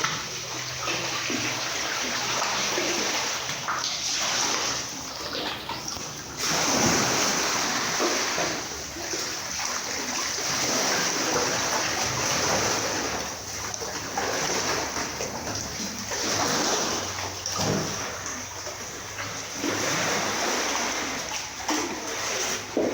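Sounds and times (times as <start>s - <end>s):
sea water splashing: 0.0s - 22.9s.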